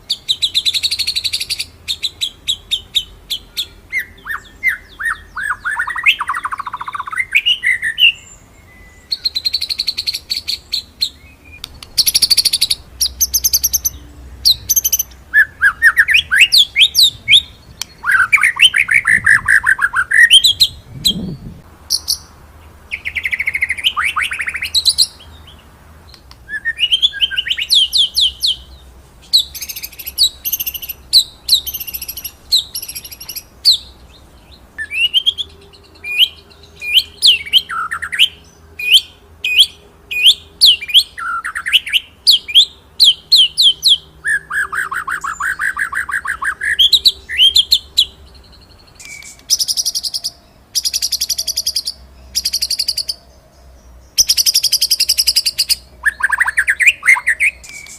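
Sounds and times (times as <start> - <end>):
bird singing trills: 0.0 - 57.9.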